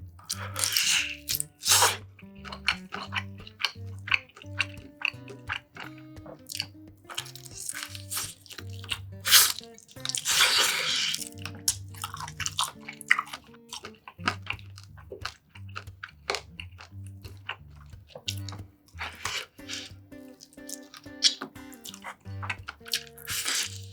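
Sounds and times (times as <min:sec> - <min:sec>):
crunching and chewing food: 0:00.0 - 0:23.9
soft background music: 0:00.0 - 0:23.9.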